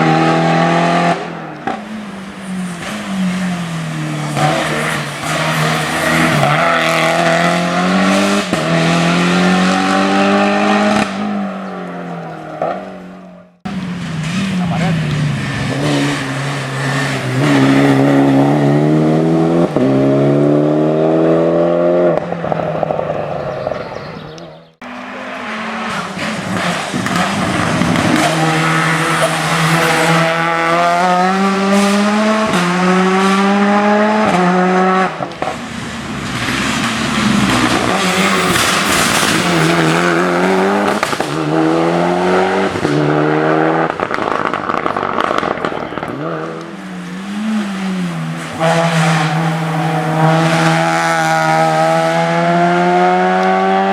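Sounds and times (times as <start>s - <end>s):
race car engines accelerating: 0.0s - 53.9s.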